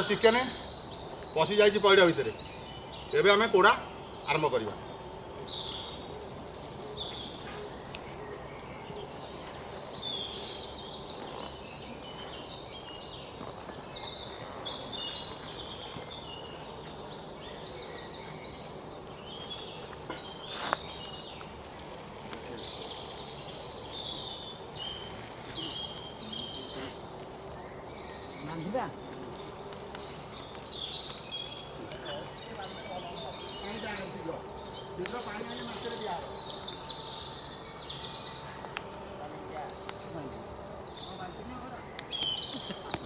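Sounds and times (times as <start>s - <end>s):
birds chirping and trilling: 0.0s - 43.0s
steady background hiss: 0.0s - 43.0s.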